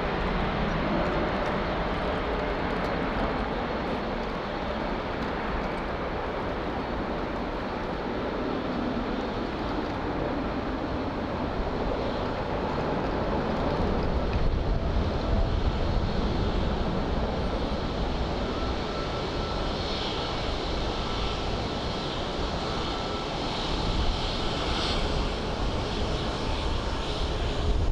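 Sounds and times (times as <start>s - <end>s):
jet engines roaring at takeoff: 0.0s - 27.9s.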